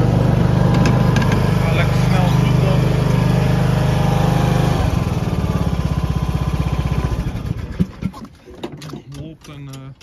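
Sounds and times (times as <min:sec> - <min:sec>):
mower engine running: 0:00.0 - 0:08.0.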